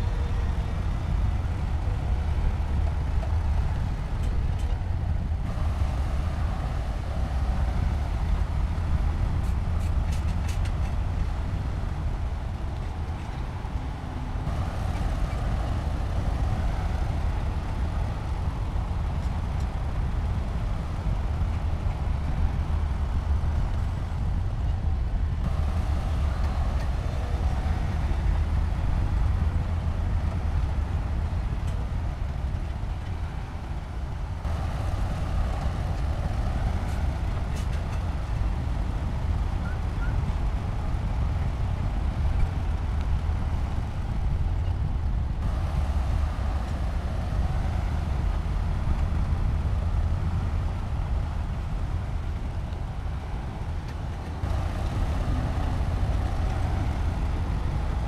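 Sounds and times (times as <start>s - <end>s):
diesel machinery rumbling: 0.0s - 58.0s.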